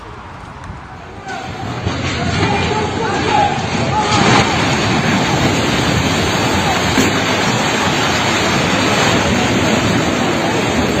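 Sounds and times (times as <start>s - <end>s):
roar of falling masonry: 1.1s - 11.0s.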